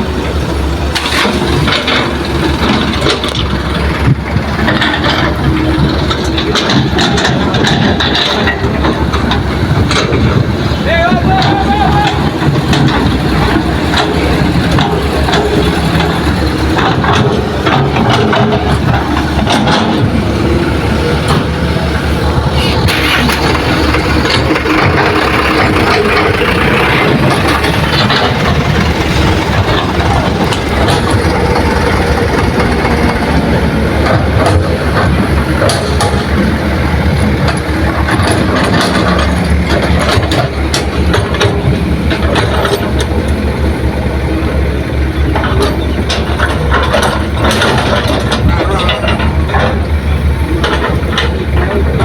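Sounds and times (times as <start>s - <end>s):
heavy diesel engines running: 0.0s - 52.0s
sharp metal knocks and clanks: 0.2s - 43.6s, 45.3s - 52.0s.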